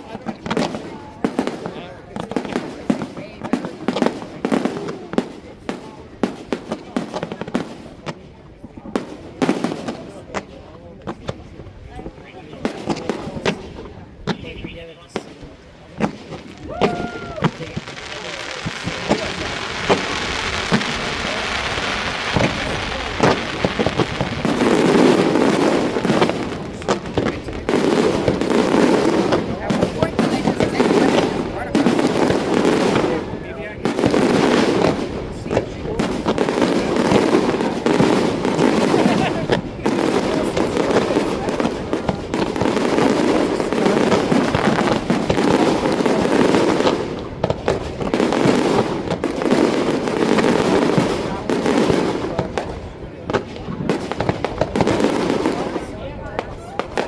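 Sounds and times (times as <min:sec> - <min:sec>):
fireworks crackling: 0:00.0 - 0:57.0
fireworks popping and banging: 0:00.0 - 0:57.0.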